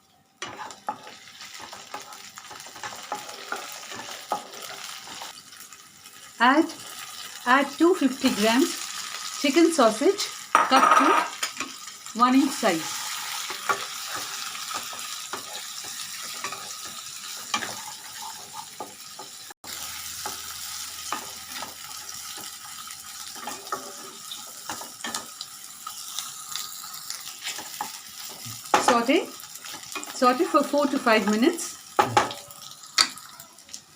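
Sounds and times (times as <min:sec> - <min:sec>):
sausage sizzling in hot oil: 0:00.0 - 0:33.9.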